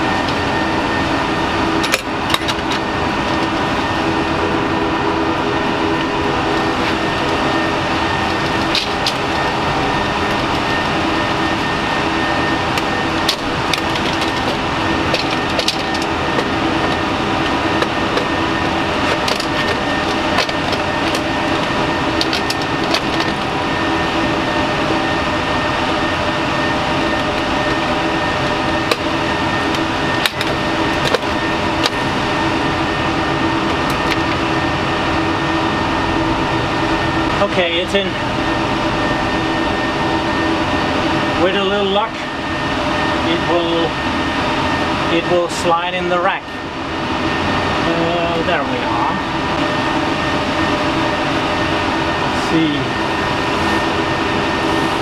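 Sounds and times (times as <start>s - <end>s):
server cooling fans whirring: 0.0s - 55.0s.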